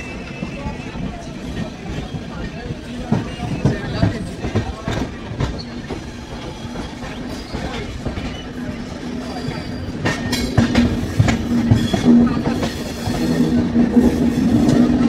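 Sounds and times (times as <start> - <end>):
train wheels clattering over rail joints: 0.3 - 15.0.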